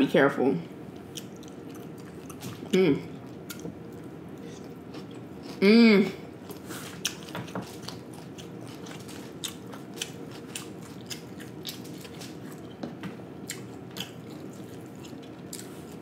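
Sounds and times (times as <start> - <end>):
person chewing food: 0.9 - 5.6, 6.4 - 16.0.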